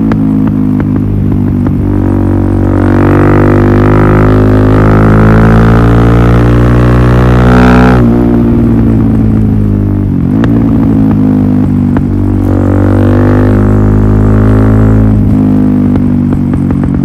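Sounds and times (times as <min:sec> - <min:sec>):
motorcycle engine running loud: 0:00.0 - 0:17.0.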